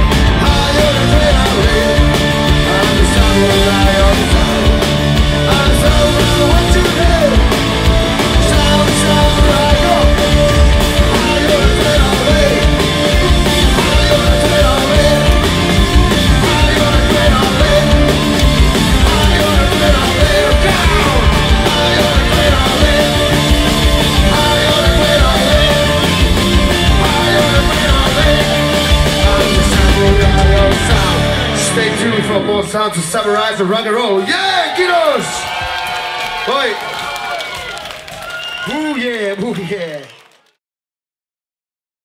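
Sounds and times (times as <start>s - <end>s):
live rock band playing: 0.0s - 34.1s.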